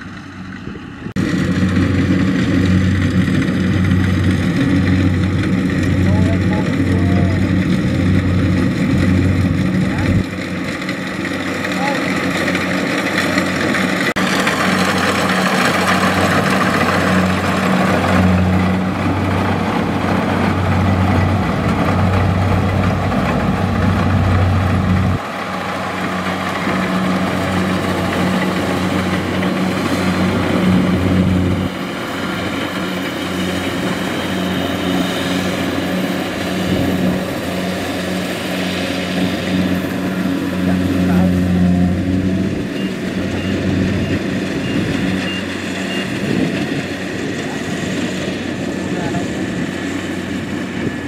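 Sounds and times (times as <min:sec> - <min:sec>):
combine harvester diesel engine: 0:00.0 - 0:51.0.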